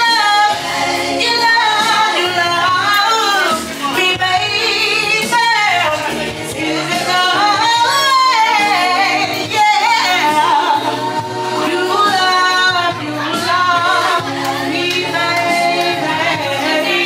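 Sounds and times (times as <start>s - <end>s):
person singing lead vocal: 0.0s - 17.0s.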